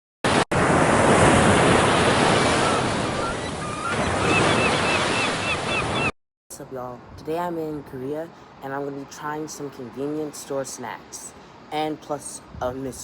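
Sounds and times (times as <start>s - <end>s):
ocean waves and surf: 0.2s - 6.1s, 6.8s - 13.0s.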